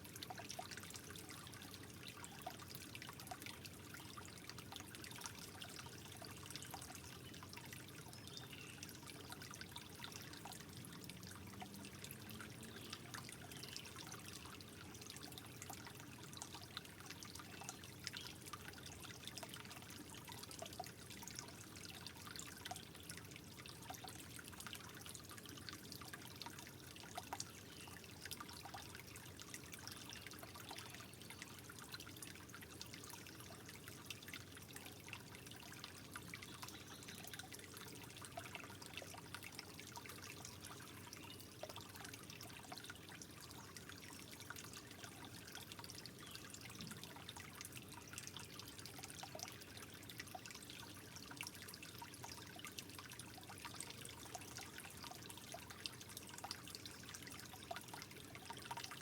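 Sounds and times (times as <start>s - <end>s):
water trickling: 0.0s - 59.0s
water dripping and splashing: 8.8s - 59.0s.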